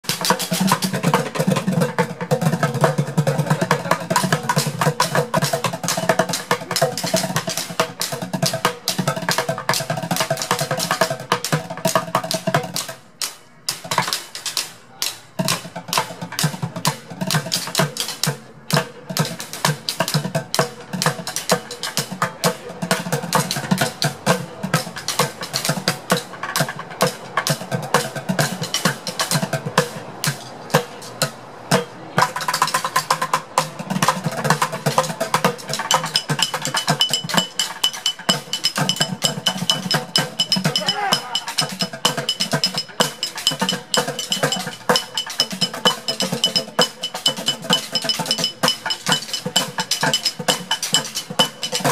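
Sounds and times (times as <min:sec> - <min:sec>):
drumming on plastic buckets: 0:00.0 - 0:51.9.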